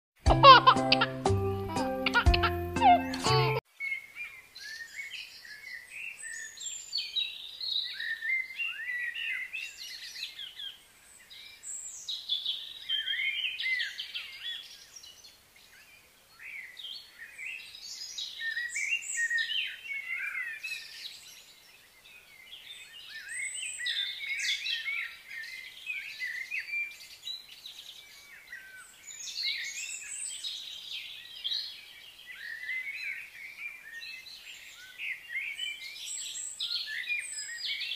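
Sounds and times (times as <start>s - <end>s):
birds chirping and singing: 0.4s - 37.9s.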